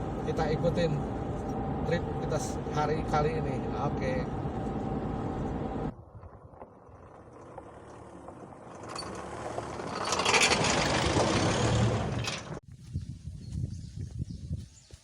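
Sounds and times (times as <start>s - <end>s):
motor vehicle driving: 0.0s - 12.6s.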